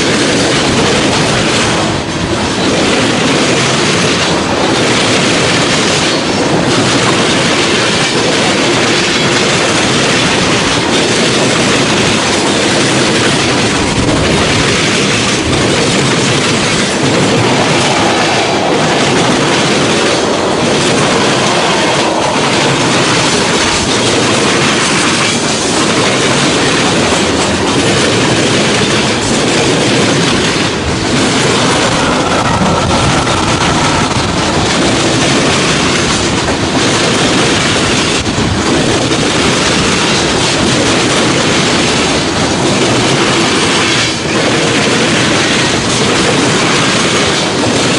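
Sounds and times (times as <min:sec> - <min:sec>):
train wheels rumbling on rail: 0:00.0 - 0:47.9
wheels clacking over rail joints: 0:00.0 - 0:47.9.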